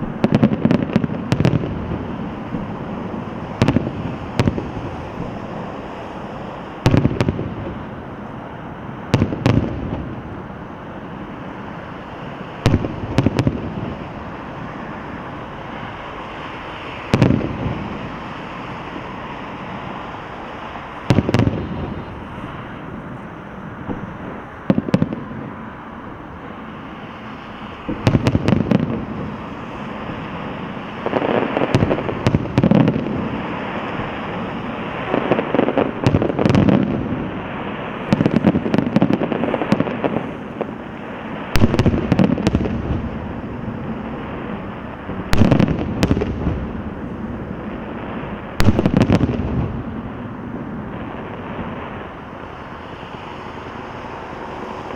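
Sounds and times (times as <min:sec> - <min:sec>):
fireworks bursting: 0:00.0 - 0:54.9
fireworks crackling and rumble: 0:00.0 - 0:54.9.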